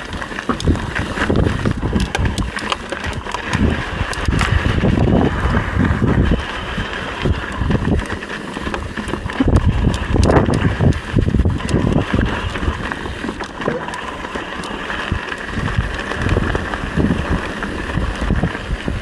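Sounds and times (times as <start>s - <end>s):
bike rattling clicks: 0.0s - 19.0s
mountain bike rumbling over rocks: 0.0s - 19.0s.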